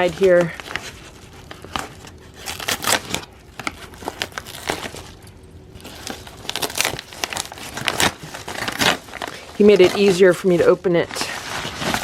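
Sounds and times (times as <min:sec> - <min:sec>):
package wrapping tearing: 0:00.0 - 0:10.2, 0:11.2 - 0:12.0.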